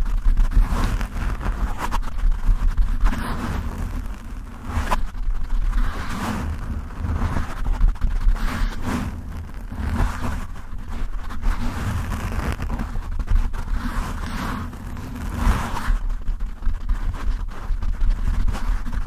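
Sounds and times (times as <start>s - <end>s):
scratching microphone windscreen: 0.0s - 19.0s.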